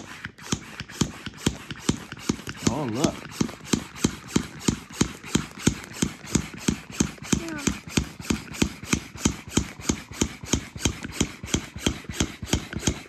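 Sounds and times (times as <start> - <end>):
plastic hand pump strokes: 0.0 - 13.0.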